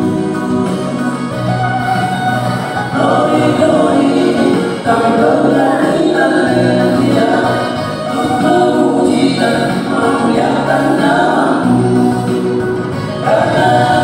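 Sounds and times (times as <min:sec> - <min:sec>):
male vocal group singing in harmony: 0:00.0 - 0:01.6, 0:02.7 - 0:14.0.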